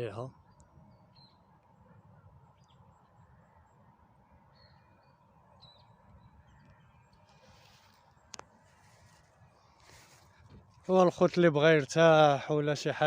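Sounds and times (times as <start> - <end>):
distant bird chirps: 0.0 - 11.8.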